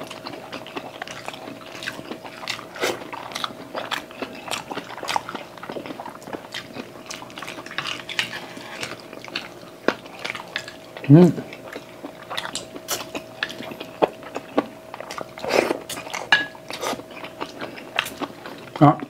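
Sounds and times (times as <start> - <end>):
chewing and wet mouth smacks: 0.1 - 18.8.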